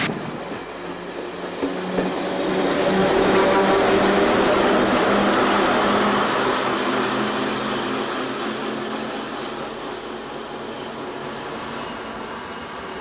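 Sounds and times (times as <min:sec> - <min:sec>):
passenger train passing: 0:00.0 - 0:13.0.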